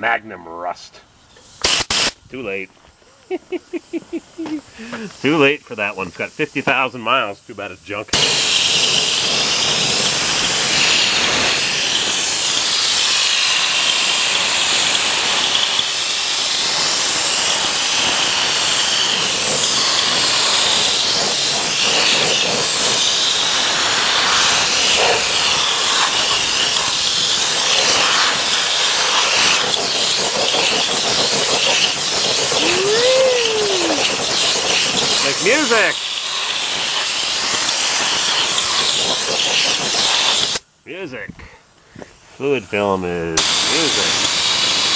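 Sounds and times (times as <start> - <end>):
spray gun hissing: 1.4 - 2.2, 3.3 - 40.6, 43.4 - 44.9.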